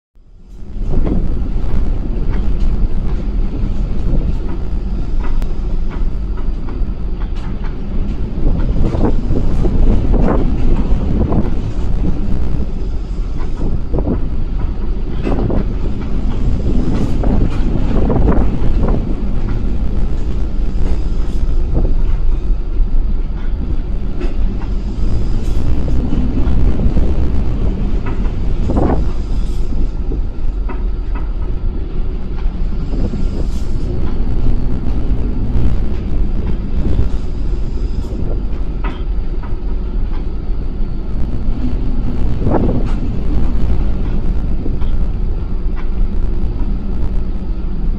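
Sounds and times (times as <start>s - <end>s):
ship engine rumble: 0.2s - 47.9s.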